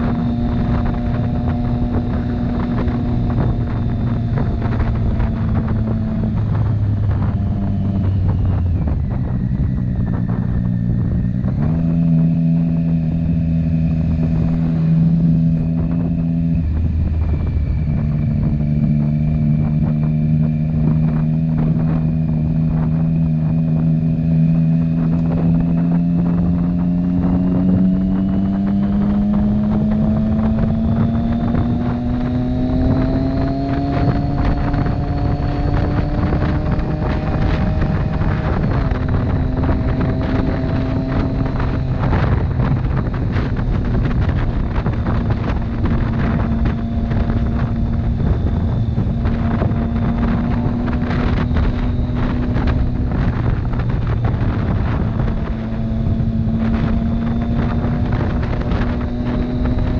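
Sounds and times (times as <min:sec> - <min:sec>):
motorcycle engine accelerating: 0:00.0 - 0:59.9
wind buffeting microphone: 0:00.0 - 0:59.9.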